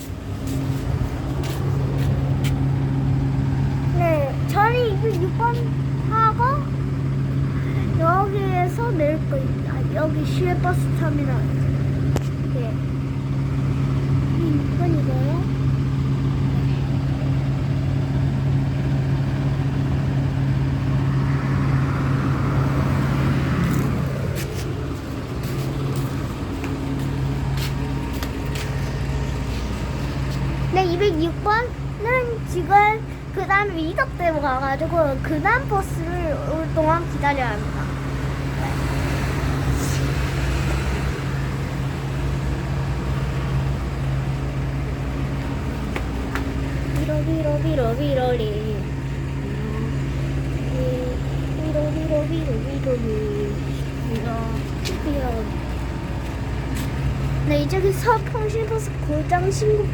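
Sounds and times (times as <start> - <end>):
bus engine idling: 0.0 - 59.9
street traffic noise: 0.0 - 59.9
vehicle passing: 0.0 - 59.9.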